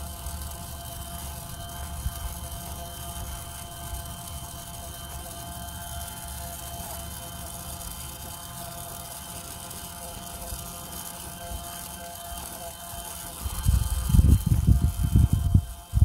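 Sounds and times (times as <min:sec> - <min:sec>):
toy iron motor buzzing: 0:00.0 - 0:16.0.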